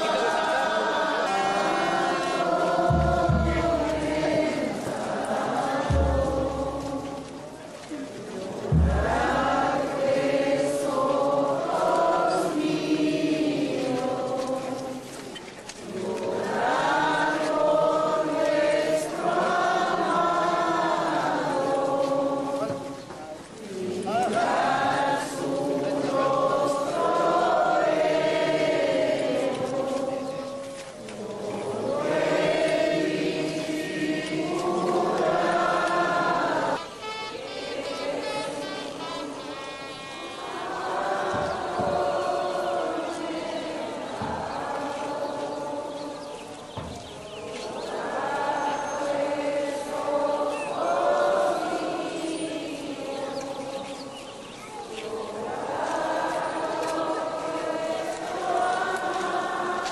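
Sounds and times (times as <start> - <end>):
crowd singing a hymn: 0.0 - 59.9.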